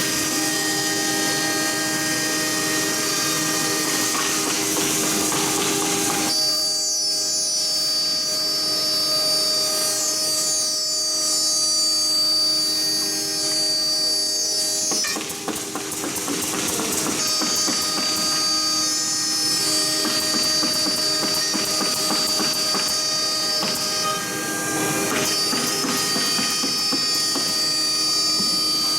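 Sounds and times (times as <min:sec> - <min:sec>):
router spindle whine: 0:00.0 - 0:28.9.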